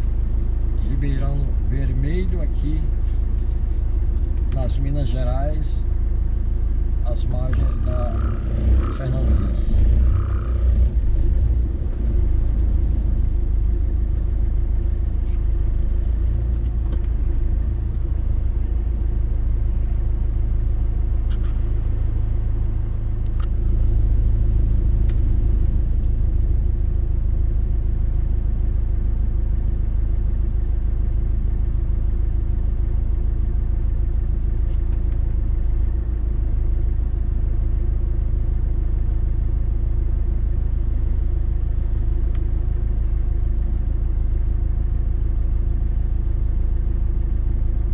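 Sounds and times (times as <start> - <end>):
car engine and tyre rumble: 0.0 - 47.9.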